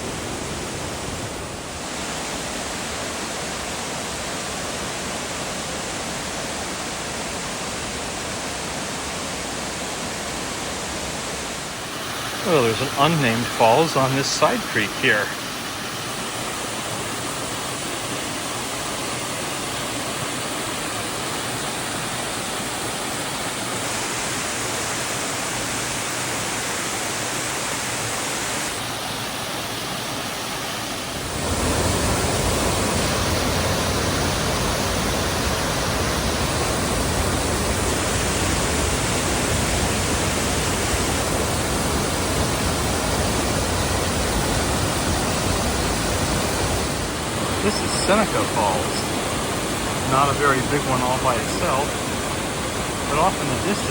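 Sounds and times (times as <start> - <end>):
waterfall roaring: 0.0 - 53.9.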